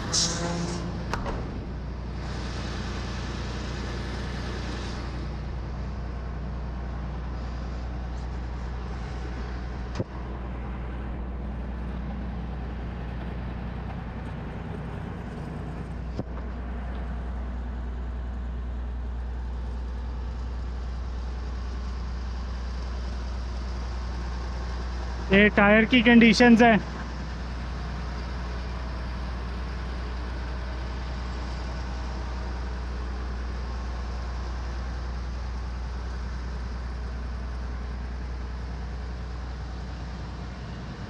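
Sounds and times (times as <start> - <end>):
diesel engine idling: 0.0 - 41.0.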